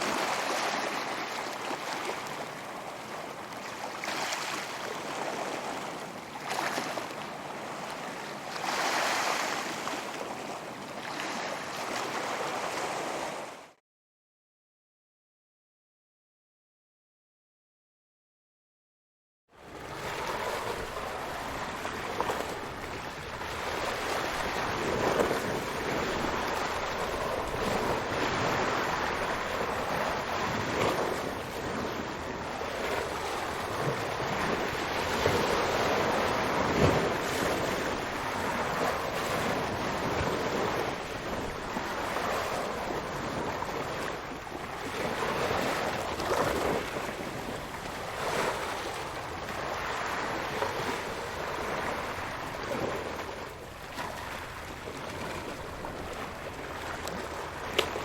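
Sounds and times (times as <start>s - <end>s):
ocean waves breaking: 0.0s - 13.8s, 19.6s - 58.0s.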